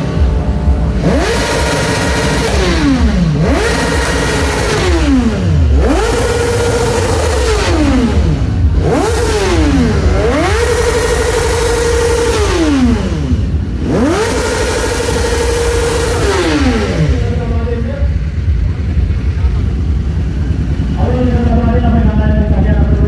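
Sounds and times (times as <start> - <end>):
motorcycle engine revving hard: 0.0 - 23.0.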